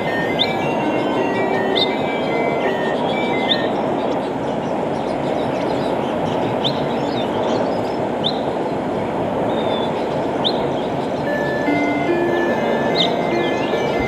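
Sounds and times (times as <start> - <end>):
bird chirping: 0.0 - 8.5, 9.5 - 14.0.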